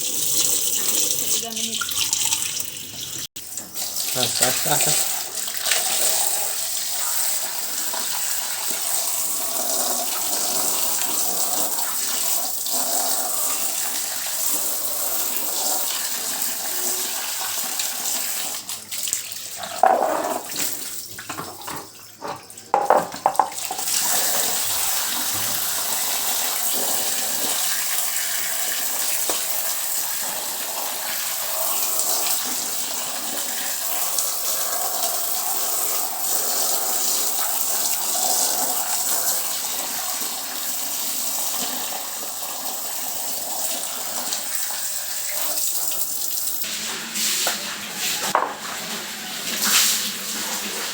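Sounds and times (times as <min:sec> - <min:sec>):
water running from a tap: 0:00.0 - 0:50.9.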